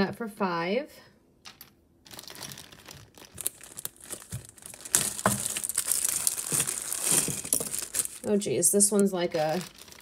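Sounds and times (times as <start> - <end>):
plastic bag crinkling: 1.5 - 10.0.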